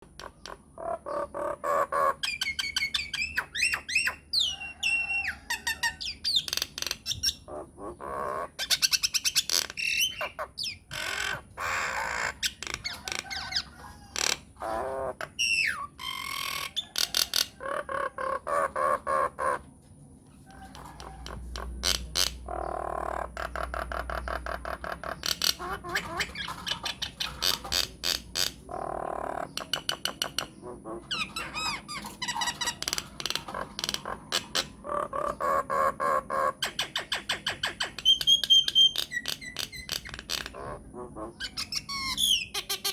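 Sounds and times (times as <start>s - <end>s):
myna bird calling: 0.0s - 19.7s, 20.6s - 42.9s.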